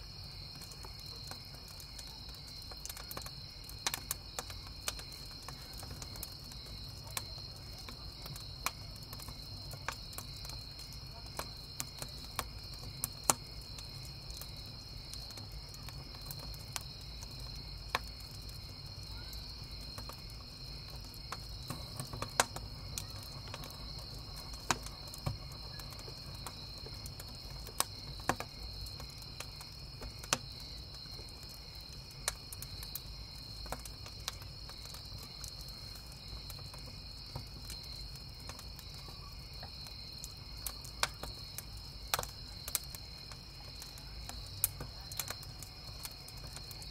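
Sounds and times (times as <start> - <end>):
campfire crackling and popping: 0.0 - 46.9
crickets chirping: 0.0 - 46.9.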